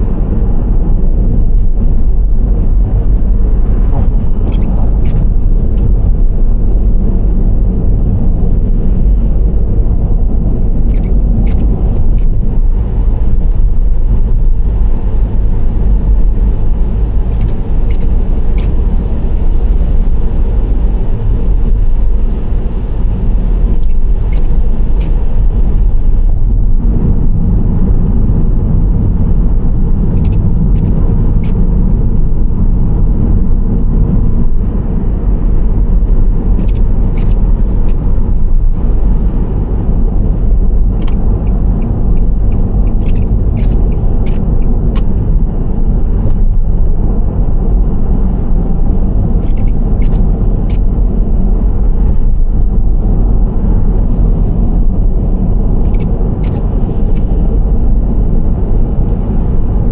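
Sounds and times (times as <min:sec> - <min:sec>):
engine and tyre rumble: 0:00.0 - 0:59.9.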